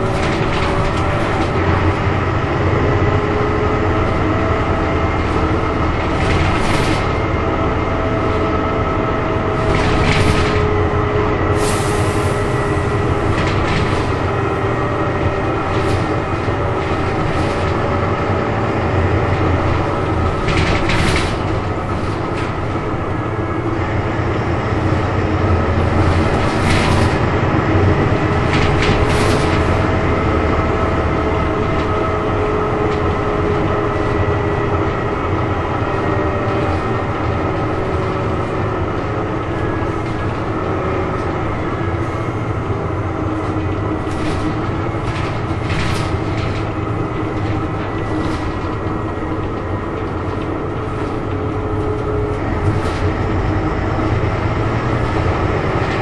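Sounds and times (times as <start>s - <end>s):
body and fittings rattling: 0.0s - 2.1s, 3.1s - 56.0s
bus engine drone and whine: 0.0s - 56.0s.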